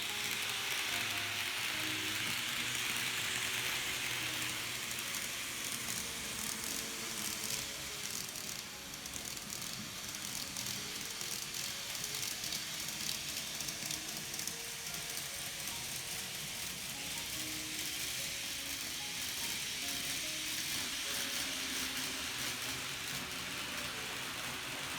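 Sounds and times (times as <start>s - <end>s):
model train motor whirring: 0.0s - 24.9s.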